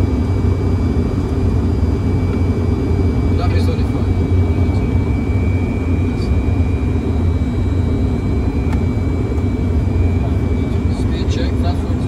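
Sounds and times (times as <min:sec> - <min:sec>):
cockpit airflow and engine rumble: 0:00.0 - 0:12.0
high-pitched whine: 0:00.0 - 0:12.0.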